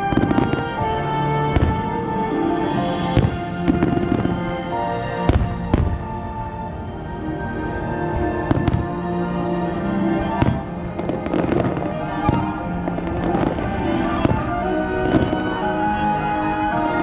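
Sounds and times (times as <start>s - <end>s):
fireworks bangs: 0.0s - 6.8s, 8.2s - 9.3s, 10.1s - 17.0s
music with held notes: 0.0s - 17.0s.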